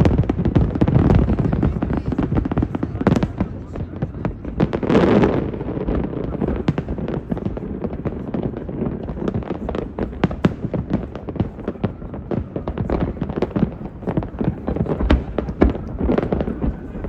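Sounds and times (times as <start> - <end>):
distant fireworks bangs: 0.0 - 17.0
fireworks popping and crackling: 0.0 - 17.0.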